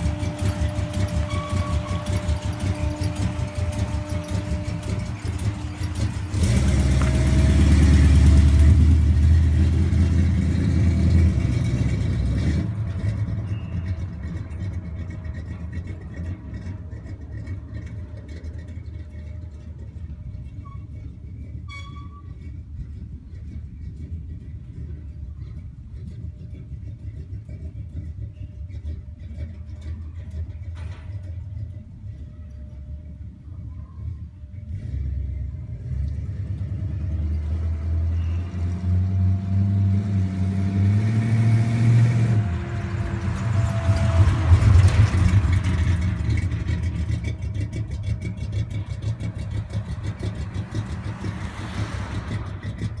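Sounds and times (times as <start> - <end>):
pickup truck engine droning: 0.0 - 53.0.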